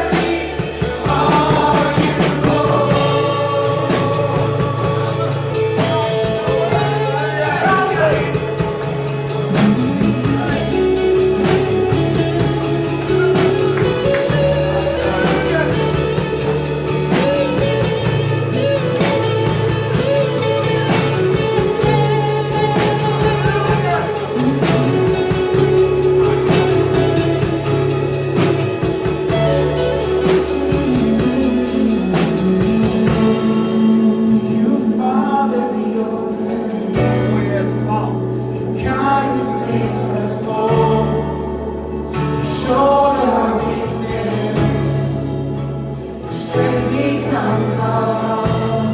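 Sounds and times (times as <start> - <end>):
voices singing: 0.0 - 45.6, 46.2 - 48.9
bass guitar: 0.0 - 48.9
drum kit: 0.0 - 48.9
electric guitar: 0.0 - 48.9.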